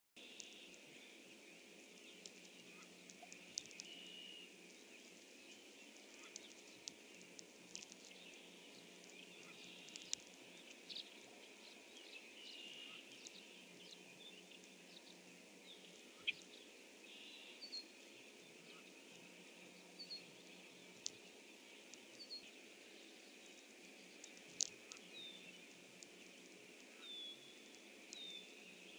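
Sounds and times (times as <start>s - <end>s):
small birds chirping: 0.2s - 28.9s.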